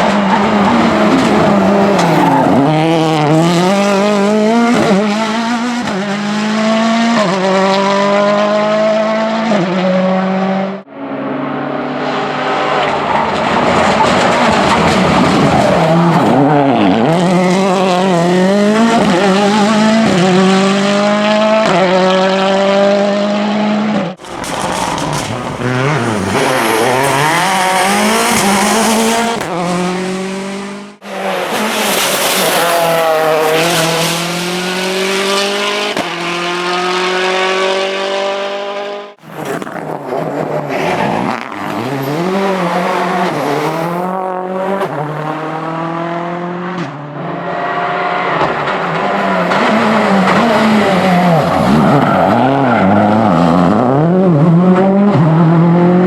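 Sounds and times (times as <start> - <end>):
rally car engines revving hard: 0.0 - 56.0.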